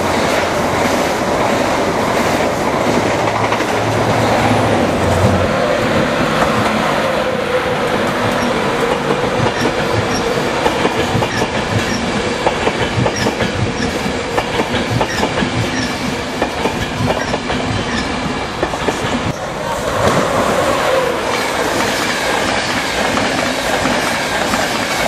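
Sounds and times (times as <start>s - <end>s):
wheels clickety-clack over rail joints: 0.0s - 20.6s, 21.3s - 25.0s
train wheels rushing on rail: 0.0s - 25.0s.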